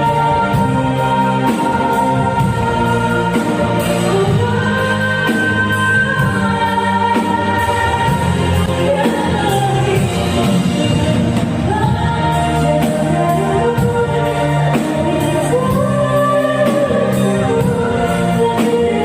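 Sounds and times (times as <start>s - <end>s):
band accompaniment: 0.0s - 19.0s
woman singing pop ballad: 0.0s - 19.0s.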